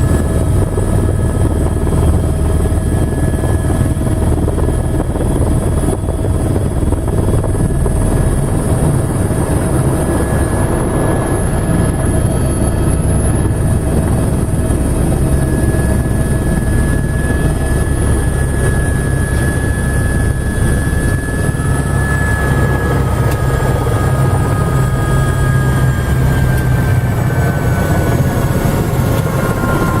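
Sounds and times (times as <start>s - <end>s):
helicopter rotor rumble: 0.0s - 30.0s
high turbine whine: 0.0s - 30.0s.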